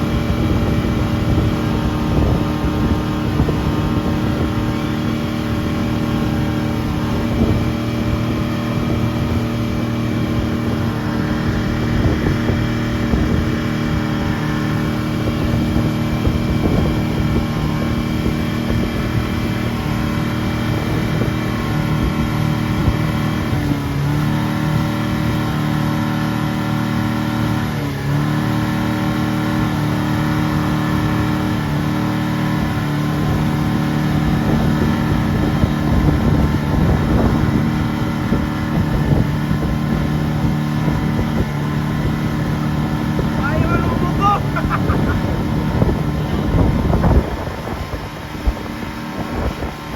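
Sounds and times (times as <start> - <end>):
motorboat engine running: 0.0 - 49.9.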